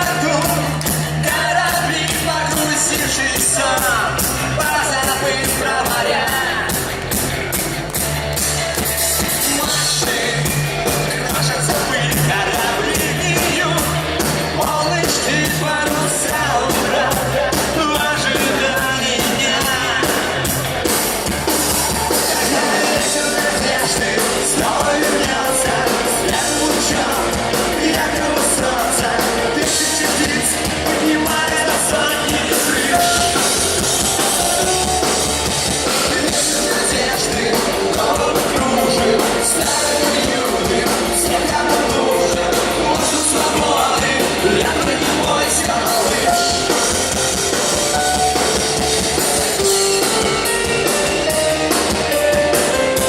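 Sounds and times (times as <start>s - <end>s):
person singing: 0.0s - 6.9s, 9.3s - 20.5s, 22.1s - 48.6s
drum kit: 0.0s - 53.0s
live rock band playing: 0.0s - 53.0s.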